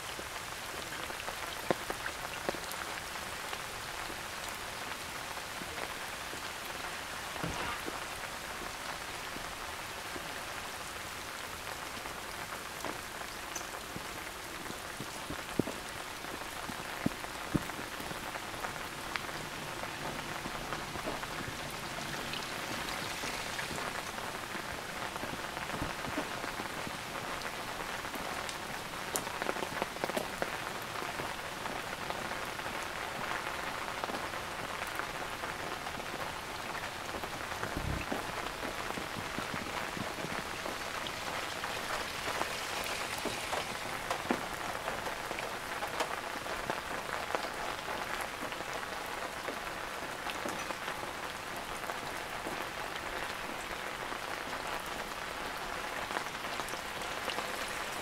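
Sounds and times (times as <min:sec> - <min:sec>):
raindrops striking surfaces: 0:00.0 - 0:58.0
steady rain: 0:00.0 - 0:58.0.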